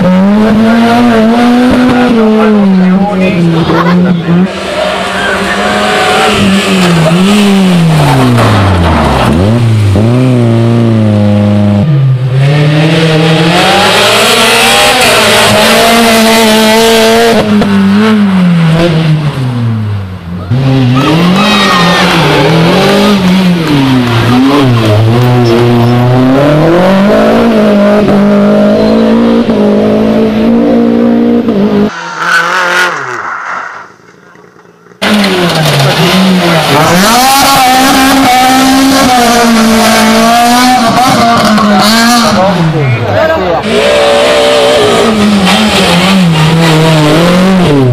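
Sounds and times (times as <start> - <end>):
rally car engines at full throttle: 0.0 - 47.9.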